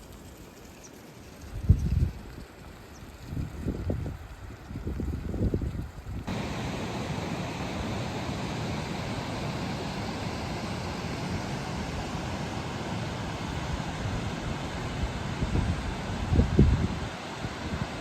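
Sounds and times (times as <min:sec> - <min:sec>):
rush of falling water: 0:00.0 - 0:18.0.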